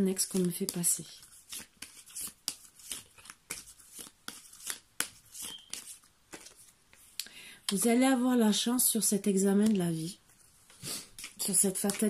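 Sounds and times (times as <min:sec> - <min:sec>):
cards being shuffled: 0:00.1 - 0:07.8, 0:09.6 - 0:12.0.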